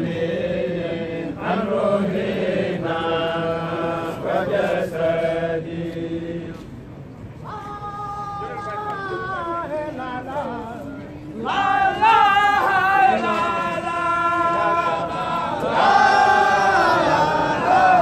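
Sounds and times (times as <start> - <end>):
men singing a chant: 0.0 - 6.6, 7.5 - 18.0.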